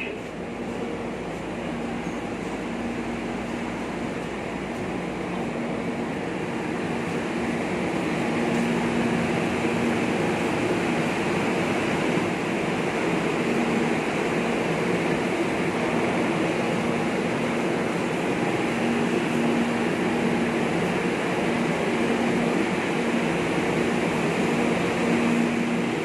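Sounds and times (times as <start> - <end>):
metro train hum and hiss: 0.0 - 26.0.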